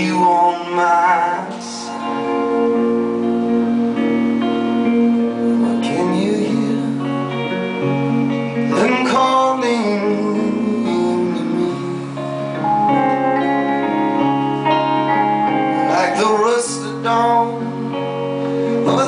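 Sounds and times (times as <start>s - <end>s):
guitars strumming: 0.0s - 19.0s
live band playing slow song: 0.0s - 19.0s.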